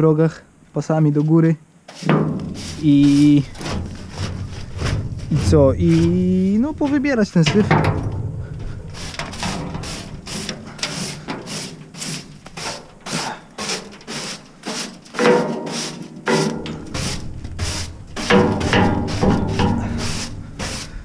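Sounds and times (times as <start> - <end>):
rubble scraping and rattling: 1.2 - 21.0.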